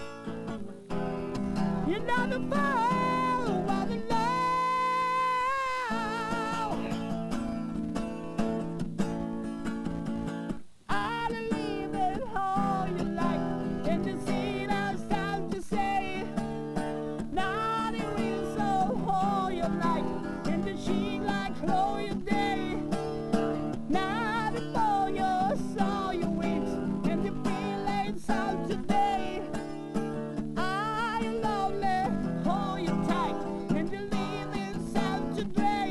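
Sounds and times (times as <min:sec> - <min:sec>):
acoustic guitar music: 0:00.0 - 0:35.9.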